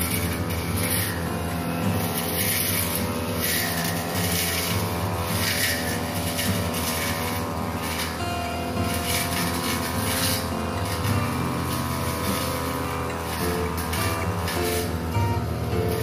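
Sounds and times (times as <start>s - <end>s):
blade hissing through leaves: 0.0s - 16.0s
brush cutter engine running: 0.0s - 16.0s.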